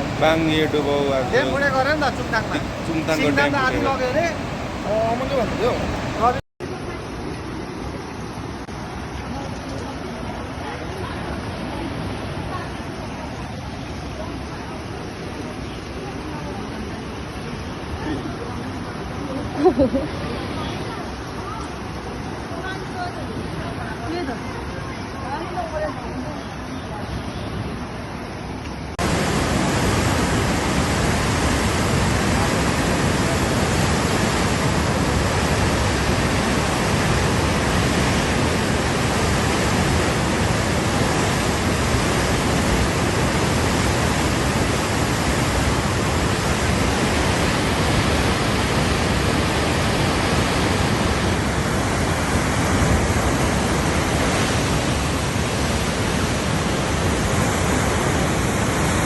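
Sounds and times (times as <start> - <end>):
floodwater rushing: 0.0 - 28.2, 29.0 - 59.0.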